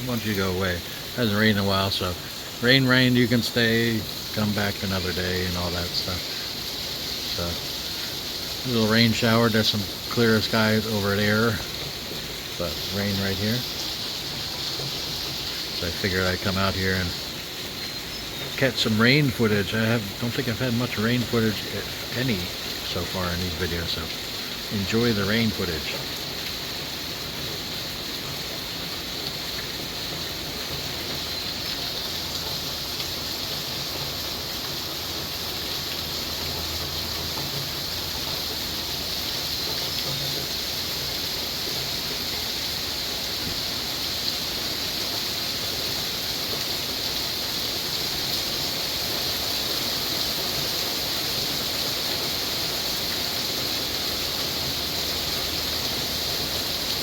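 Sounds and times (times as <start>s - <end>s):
rain shower hissing: 0.0s - 57.0s.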